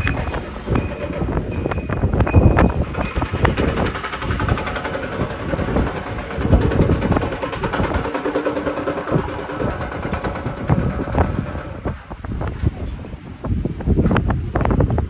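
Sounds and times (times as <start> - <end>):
city traffic: 0.0 - 13.6
knocks and clatter: 0.0 - 14.9
strong gusty wind: 0.0 - 15.0.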